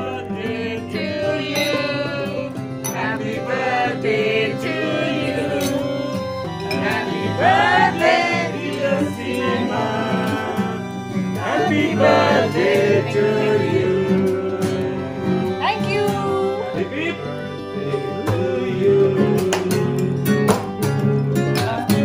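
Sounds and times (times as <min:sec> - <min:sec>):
classical guitar strumming: 0:00.0 - 0:22.0
voices singing: 0:00.0 - 0:22.0.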